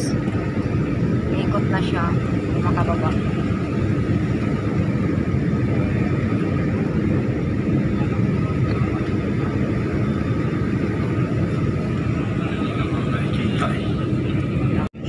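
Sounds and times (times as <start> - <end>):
airliner engines and airflow rushing: 0.0 - 15.0.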